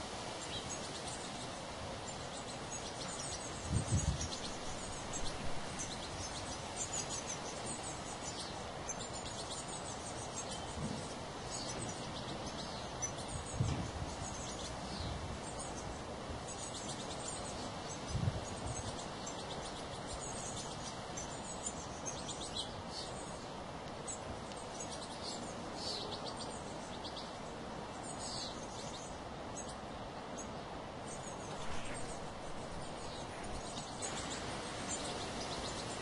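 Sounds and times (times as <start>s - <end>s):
outdoor hiss: 0.0s - 36.0s
finches chirping: 0.3s - 36.0s.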